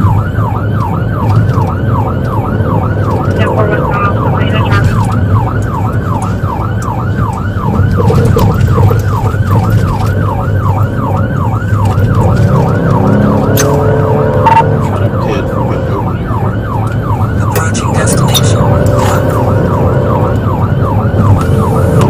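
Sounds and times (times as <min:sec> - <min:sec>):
car driving rumble: 0:00.0 - 0:22.0
police siren yelping: 0:00.0 - 0:22.0.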